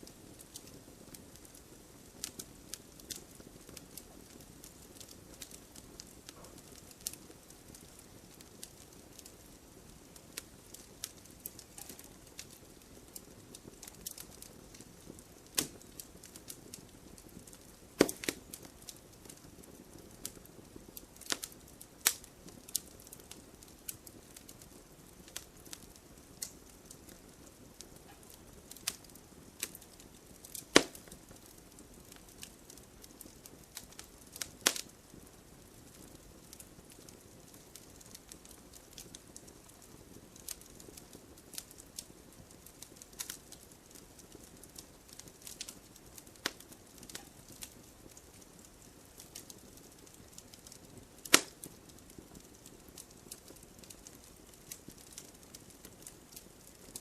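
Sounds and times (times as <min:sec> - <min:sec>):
faint steady hiss: 0:00.0 - 0:57.0
firewood crackling in fireplace: 0:00.0 - 0:57.0
loud fire pops: 0:00.0 - 0:57.0.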